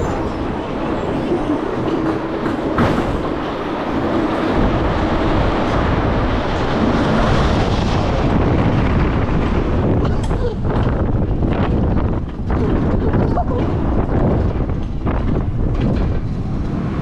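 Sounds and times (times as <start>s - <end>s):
roller coaster wheels on steel rail: 0.0s - 17.0s.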